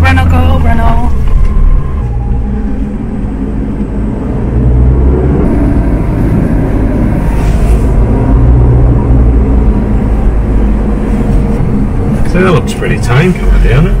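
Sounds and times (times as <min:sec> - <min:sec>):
vehicle engine rumbling under load: 0:00.0 - 0:14.0.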